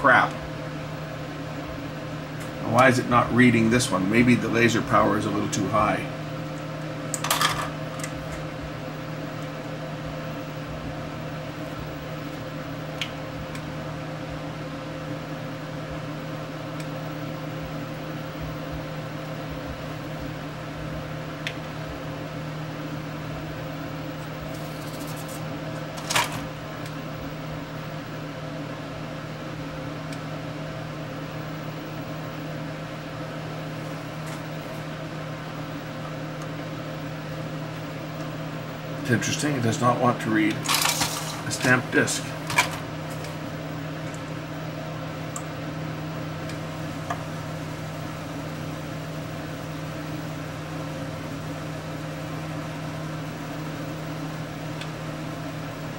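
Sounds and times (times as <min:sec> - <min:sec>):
machine hum: 0:00.0 - 0:55.9.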